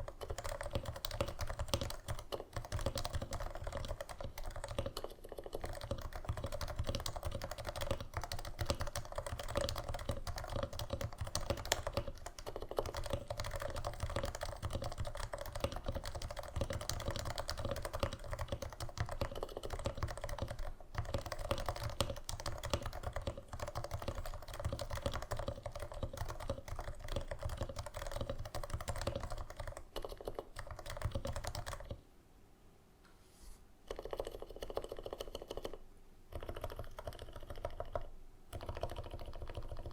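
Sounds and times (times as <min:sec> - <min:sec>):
fast keyboard typing: 0:00.0 - 0:32.0, 0:33.9 - 0:39.9.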